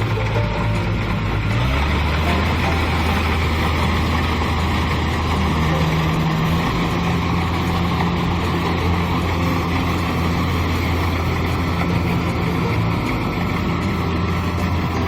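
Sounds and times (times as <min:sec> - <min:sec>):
combine harvester diesel engine: 0:00.0 - 0:15.0
higher machinery hum: 0:00.0 - 0:15.0.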